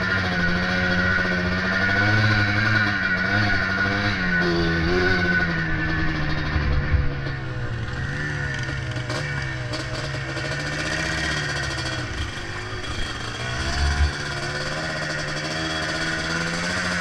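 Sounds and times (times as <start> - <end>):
two-stroke quad engine: 0.0 - 17.0.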